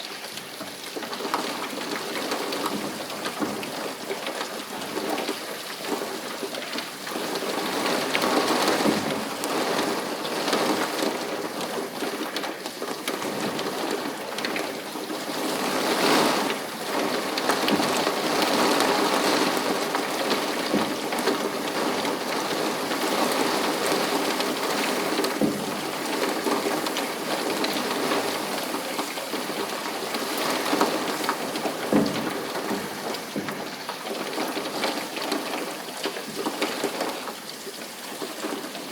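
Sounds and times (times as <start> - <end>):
rain pattering on surfaces: 0.0 - 38.9
sharp raindrops: 0.0 - 38.9.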